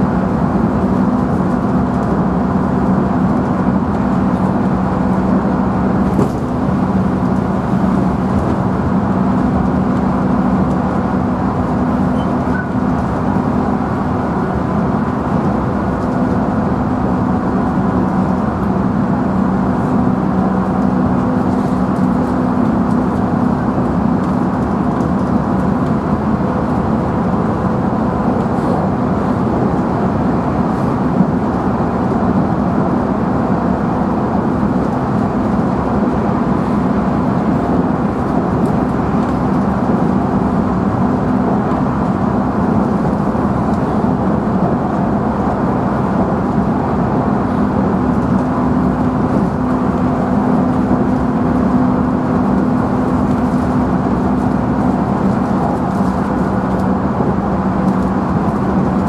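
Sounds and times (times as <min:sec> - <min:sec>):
wheels rumbling on rails: 0:00.0 - 0:59.0.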